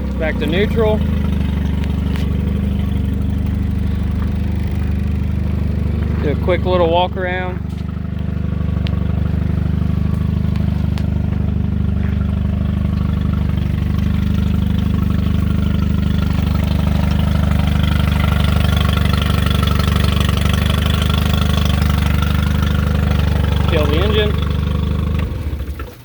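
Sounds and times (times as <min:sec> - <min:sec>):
outboard motor idling: 0:00.0 - 0:26.0.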